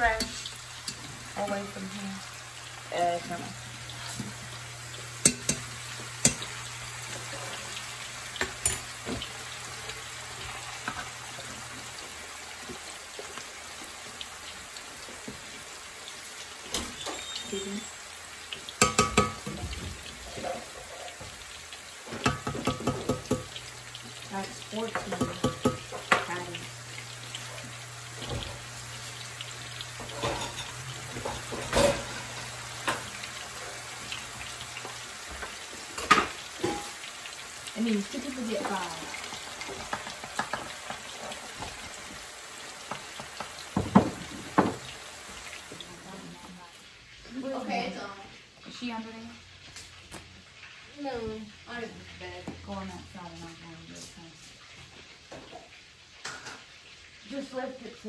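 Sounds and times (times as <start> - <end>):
fish cakes sizzling in oil: 0.0 - 58.0.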